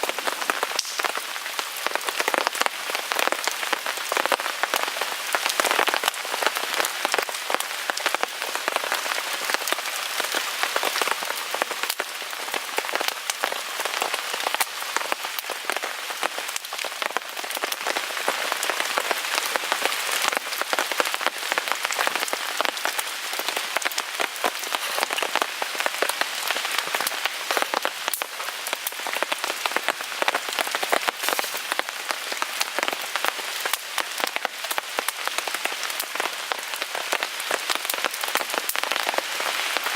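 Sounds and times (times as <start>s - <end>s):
rain pattering on a tarp: 0.0s - 39.9s.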